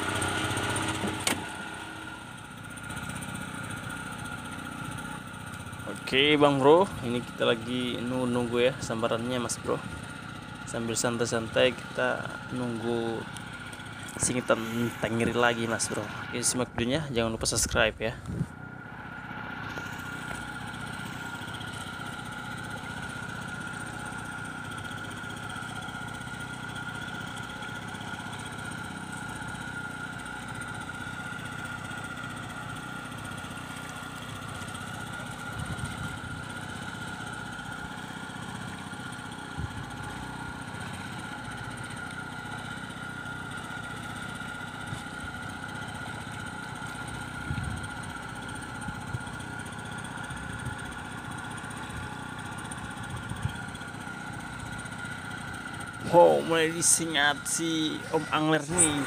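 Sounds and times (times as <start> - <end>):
small engine idling: 0.0 - 59.0.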